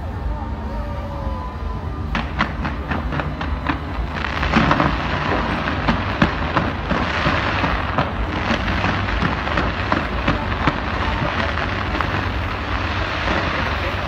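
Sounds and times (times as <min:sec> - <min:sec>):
fireworks crackling rush: 0:00.0 - 0:14.0
fireworks bangs: 0:02.0 - 0:14.0.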